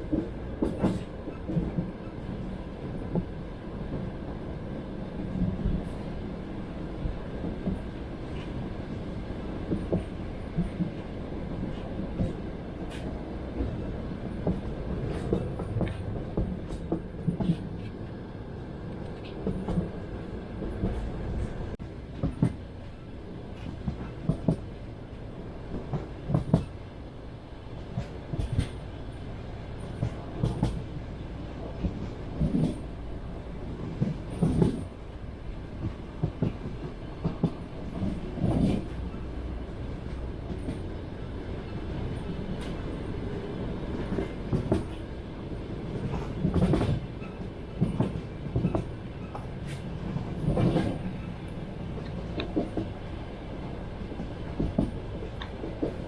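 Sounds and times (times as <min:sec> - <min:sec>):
train wheels clickety-clack: 0:00.0 - 0:06.3, 0:07.0 - 0:18.2, 0:18.9 - 0:25.0, 0:25.6 - 0:26.9, 0:27.7 - 0:56.0
low rumble of moving carriage: 0:00.0 - 0:56.0.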